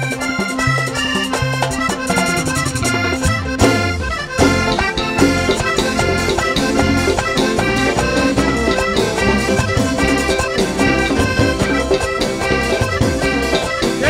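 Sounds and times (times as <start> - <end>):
bass: 0.0 - 14.0
button accordion playing quick notes: 0.0 - 14.0
steady beat: 1.6 - 14.0.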